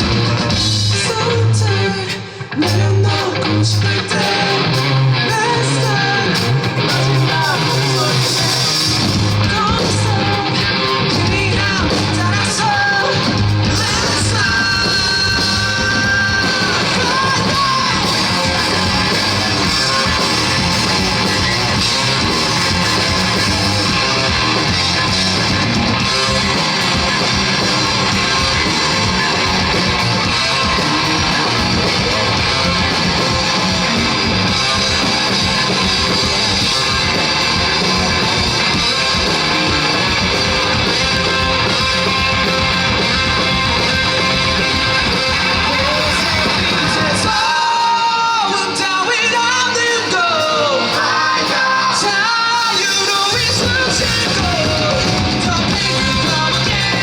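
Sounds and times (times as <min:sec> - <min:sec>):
lead vocal singing and shouting: 0:00.0 - 0:57.0
live rock band playing: 0:00.0 - 0:57.0.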